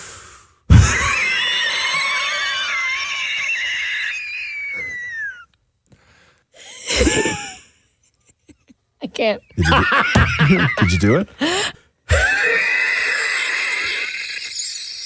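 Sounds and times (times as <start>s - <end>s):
person wheezing laugh: 0.7s - 5.4s, 6.6s - 8.7s, 9.6s - 15.0s.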